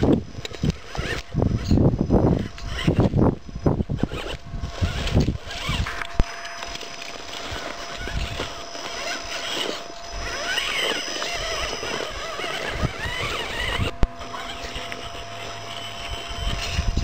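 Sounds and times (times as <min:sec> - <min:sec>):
wind rumble on microphone: 0:00.0 - 0:06.7, 0:07.4 - 0:17.0
small electric motor whining: 0:00.0 - 0:17.0.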